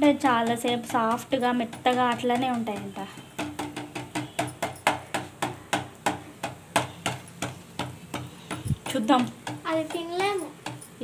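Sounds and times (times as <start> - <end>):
wooden spatula tapping: 0.0 - 11.0.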